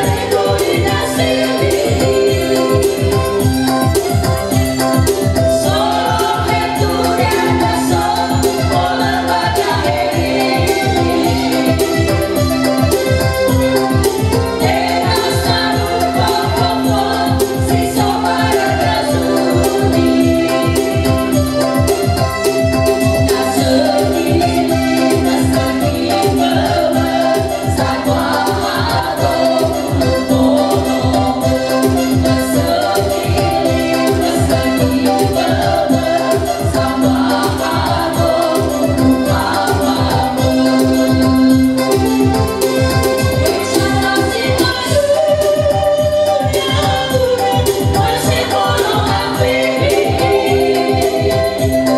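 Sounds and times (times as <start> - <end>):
keyboard electronic beat: 0.0 - 51.9
women singing through pa: 0.0 - 51.9.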